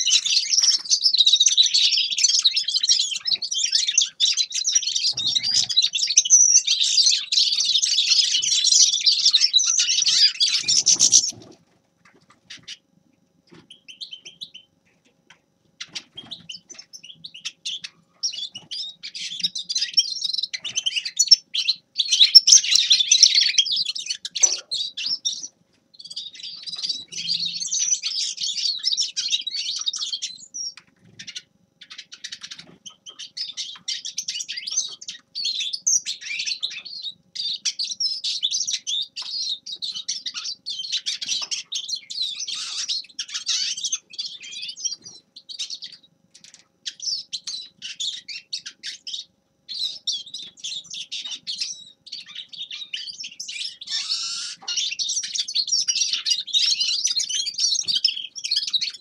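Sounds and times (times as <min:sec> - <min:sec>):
goldfinch singing rapid high song: 0:00.0 - 0:11.4, 0:13.7 - 0:14.7, 0:15.8 - 0:46.1, 0:46.9 - 0:59.0.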